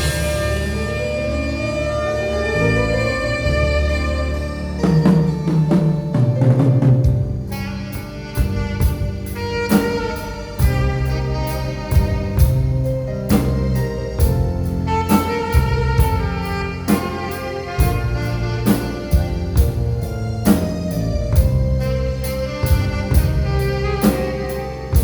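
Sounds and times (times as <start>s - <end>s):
drum kit beat: 0.0s - 2.8s, 4.8s - 25.0s
alto saxophone melody: 0.0s - 25.0s
keyboard: 0.0s - 25.0s.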